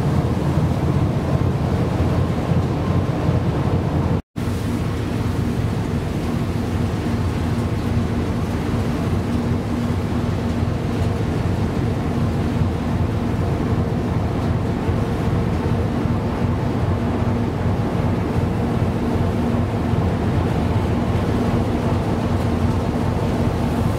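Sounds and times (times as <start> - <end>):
rough sea breaking: 0.0 - 23.9
wind rumbling on microphone: 0.0 - 23.9.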